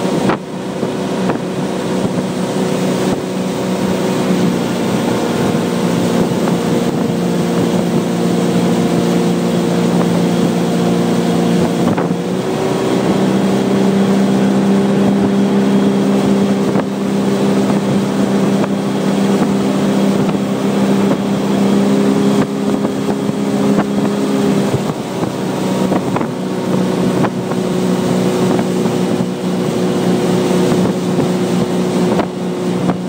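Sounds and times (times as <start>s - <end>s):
boat engine running: 0.0s - 33.0s
rush of boat wake: 0.0s - 33.0s.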